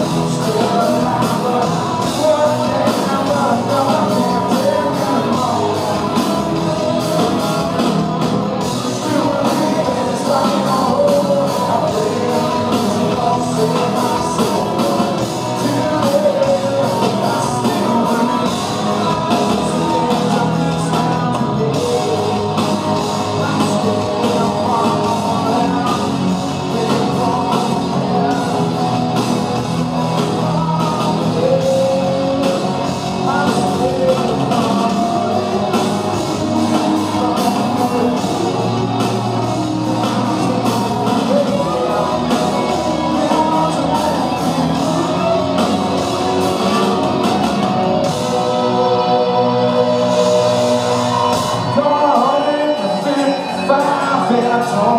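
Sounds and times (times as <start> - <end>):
man singing: 0.0 - 54.9
rock band playing: 0.0 - 54.9.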